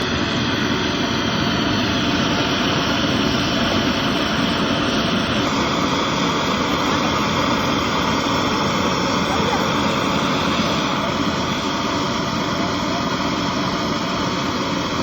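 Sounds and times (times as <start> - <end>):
workshop machinery whirring: 0.0 - 15.0.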